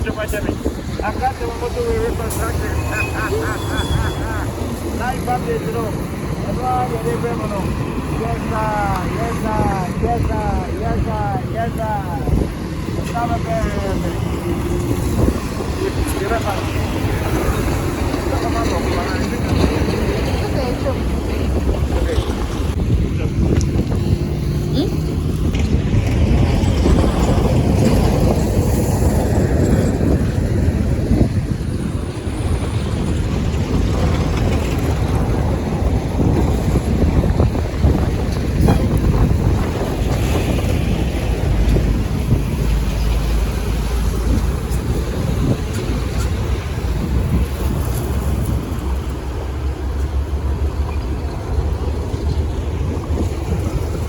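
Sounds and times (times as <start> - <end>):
motorway traffic rumble: 0.0 - 54.0
wind buffeting microphone: 0.0 - 54.0.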